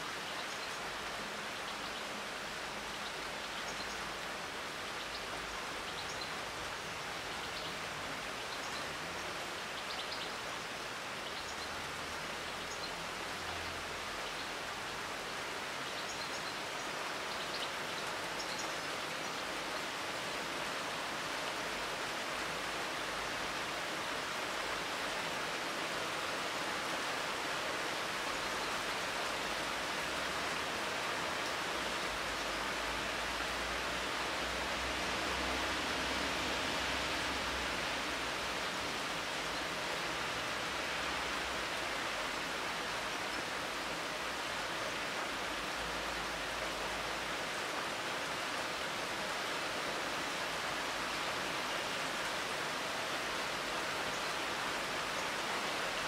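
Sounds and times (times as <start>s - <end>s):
rain on foliage: 0.0s - 56.0s.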